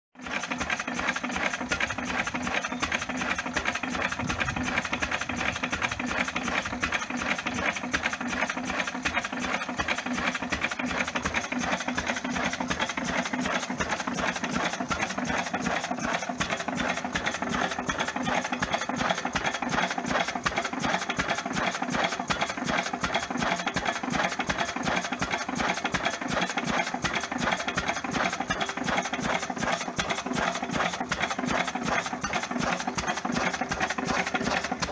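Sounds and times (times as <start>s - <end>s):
stationary engine running: 0.2s - 34.9s.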